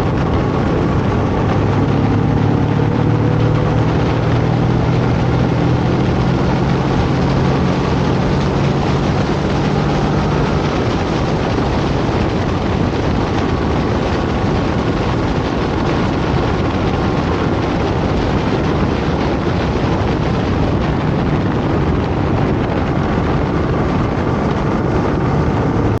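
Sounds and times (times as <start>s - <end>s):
motorcycle engine cruising: 0.0s - 26.0s
wind rushing: 0.0s - 26.0s.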